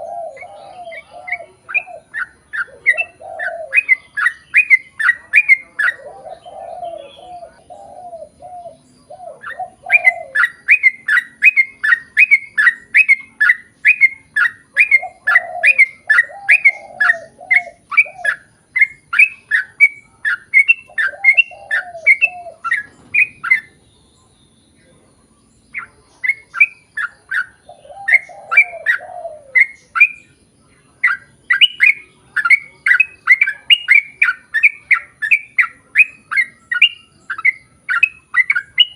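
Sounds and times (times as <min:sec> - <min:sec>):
bird bubbling phrases: 0:00.0 - 0:23.8, 0:25.7 - 0:38.9
bulbul chattering song: 0:00.0 - 0:38.9.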